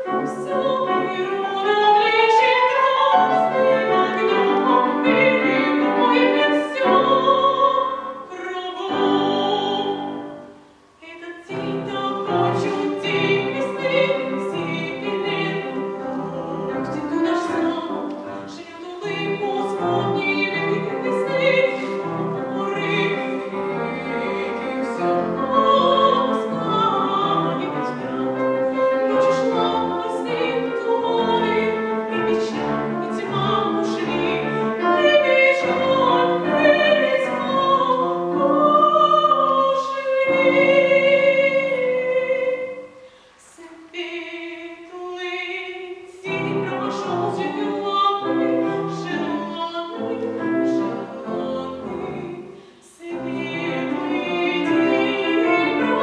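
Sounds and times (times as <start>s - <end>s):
piano accompaniment: 0.0s - 43.0s, 45.7s - 56.0s
young person singing classical: 0.0s - 56.0s.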